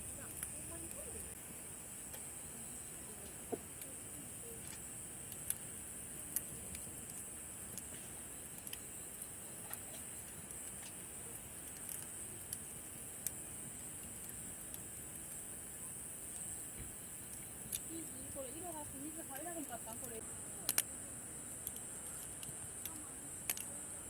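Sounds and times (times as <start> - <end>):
campfire crackling and popping: 0.0 - 24.0
night insects chirring: 0.0 - 24.0.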